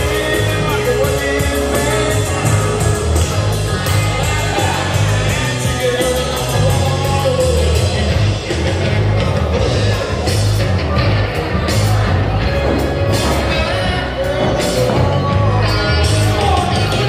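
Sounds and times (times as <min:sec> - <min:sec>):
rock music with singer: 0:00.0 - 0:17.0.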